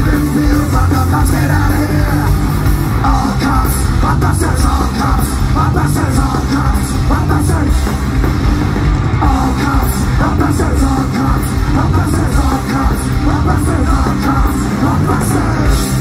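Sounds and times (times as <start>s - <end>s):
singer shouting vocals: 0.0s - 7.8s, 9.2s - 16.0s
punk rock band playing live: 0.0s - 16.0s.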